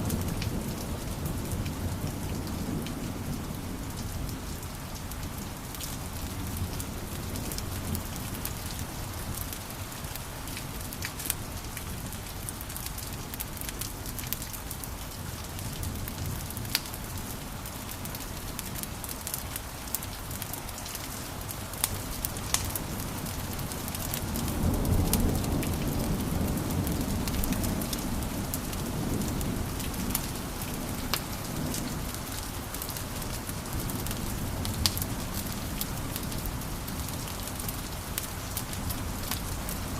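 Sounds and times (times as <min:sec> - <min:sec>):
wood fire crackling: 0:04.0 - 0:39.9.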